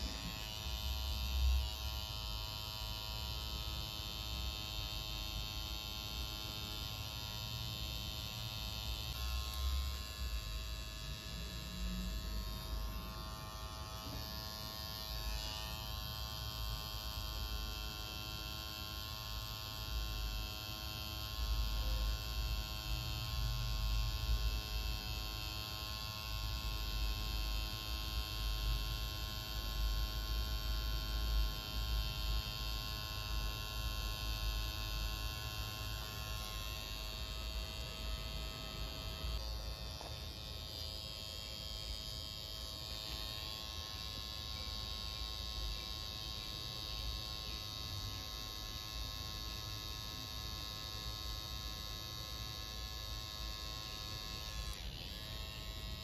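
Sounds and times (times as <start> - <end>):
tattoo machine buzzing: 0.0 - 56.0.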